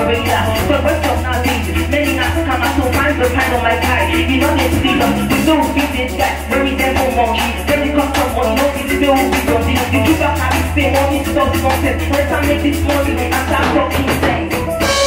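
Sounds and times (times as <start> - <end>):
live band playing groove: 0.0 - 15.0.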